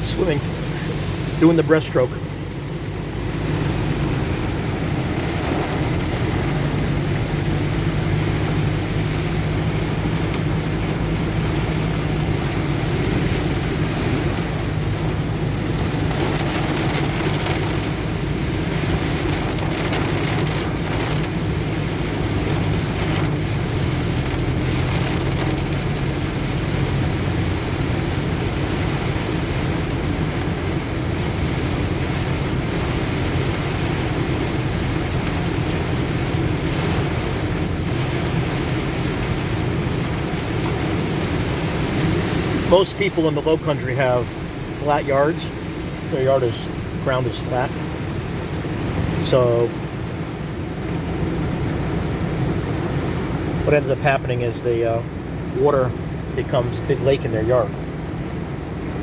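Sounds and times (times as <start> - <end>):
heavy rain: 0.0 - 59.0
truck engine running: 0.0 - 59.0.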